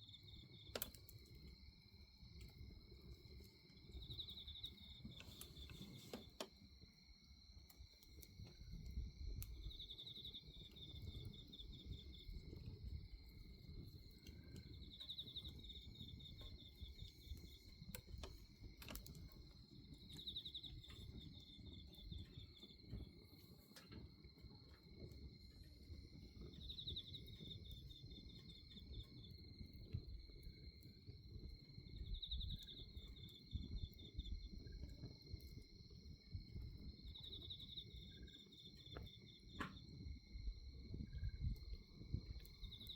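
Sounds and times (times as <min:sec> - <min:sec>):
insect pulsed chirp: 0:00.0 - 0:42.9
night insects trilling: 0:00.0 - 0:42.9
bonfire rumbling and crackling: 0:07.7 - 0:42.9.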